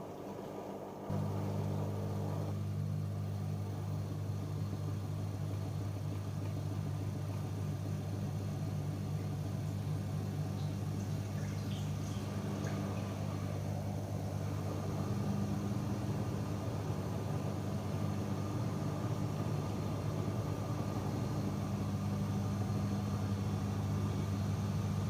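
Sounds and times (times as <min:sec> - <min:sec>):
washing machine electric hum: 0:00.0 - 0:25.0.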